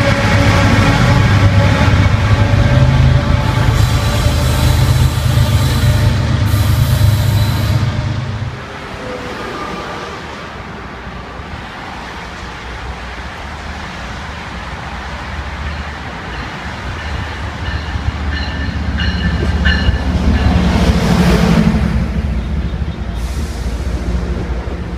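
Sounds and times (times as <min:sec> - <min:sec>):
diesel locomotive engine rumble: 0:00.0 - 0:24.9
rail noise: 0:00.0 - 0:24.9.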